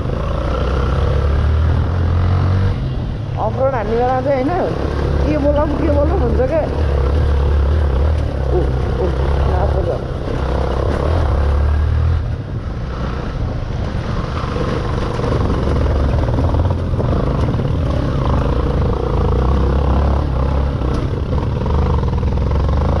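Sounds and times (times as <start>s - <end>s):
motorcycle engine rumble: 0.0s - 23.0s.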